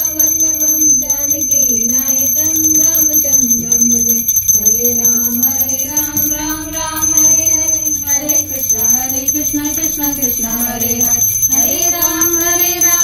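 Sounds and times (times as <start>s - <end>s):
small hand bell ringing: 0.0s - 13.0s
woman singing devotional chant: 0.0s - 13.0s.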